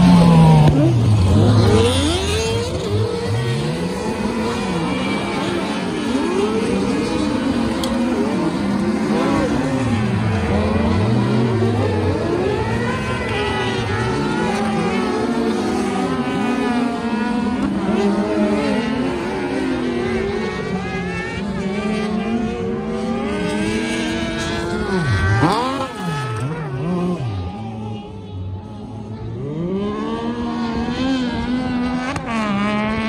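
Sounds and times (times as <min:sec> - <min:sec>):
buggy engines revving: 0:00.0 - 0:33.0.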